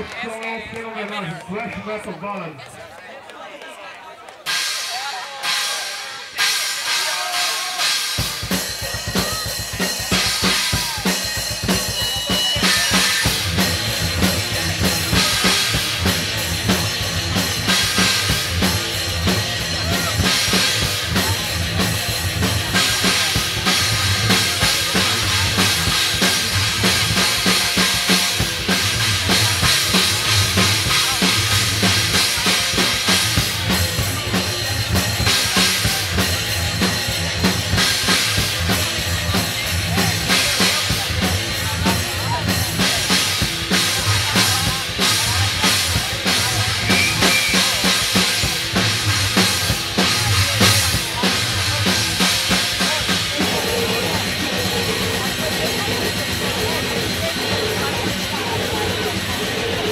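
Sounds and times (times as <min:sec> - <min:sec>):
bass drum and snare pounding: 0:04.5 - 0:59.9
metal band playing live: 0:04.5 - 0:59.9.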